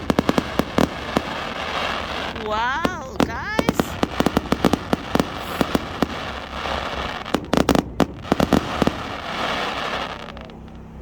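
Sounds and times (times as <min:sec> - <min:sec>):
fireworks bangs and pops: 0:00.0 - 0:10.8
fireworks crackle: 0:00.0 - 0:10.8.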